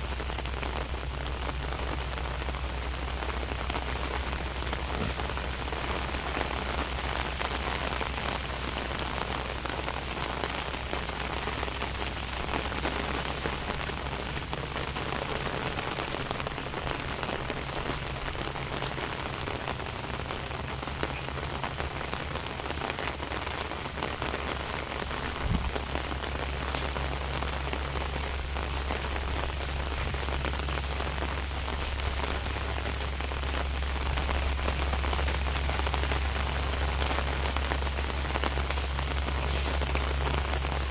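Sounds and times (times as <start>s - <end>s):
low rumble: 0.0s - 40.9s
steady rain falling: 0.0s - 40.9s.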